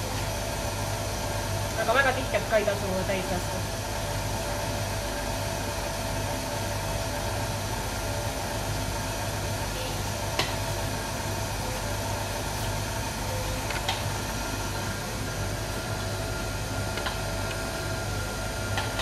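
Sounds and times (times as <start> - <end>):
stand mixer motor running: 0.0 - 19.0.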